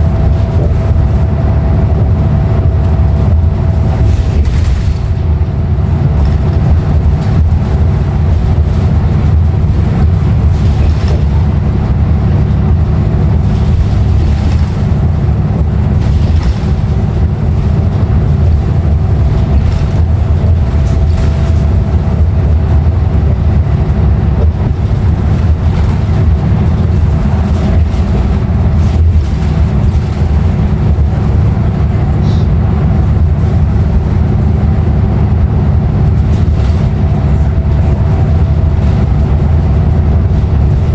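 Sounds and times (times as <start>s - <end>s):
bus diesel engine drone: 0.0s - 40.9s
road noise: 0.0s - 40.9s.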